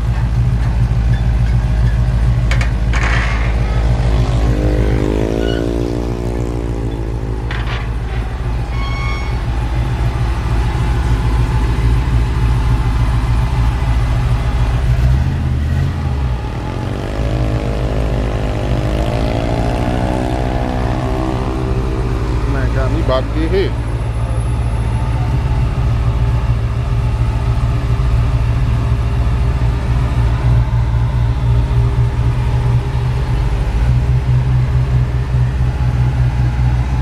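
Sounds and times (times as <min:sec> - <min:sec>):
car engine rumbling and revving: 0:00.0 - 0:37.0.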